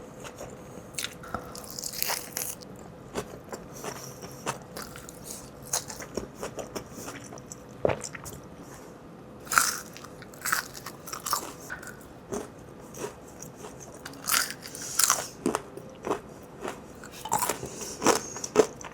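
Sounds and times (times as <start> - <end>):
crunchy bites and chewing: 0.9 - 8.4, 9.4 - 18.9.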